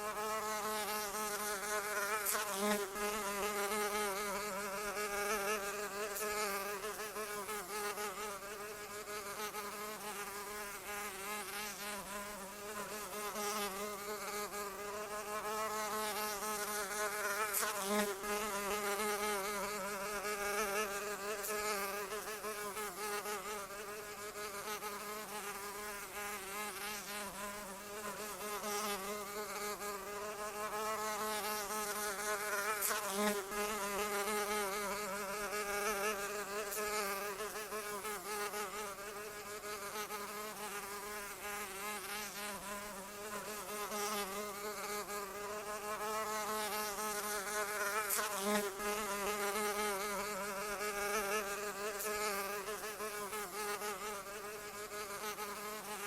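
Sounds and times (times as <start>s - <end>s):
fly buzzing: 0.0s - 56.0s.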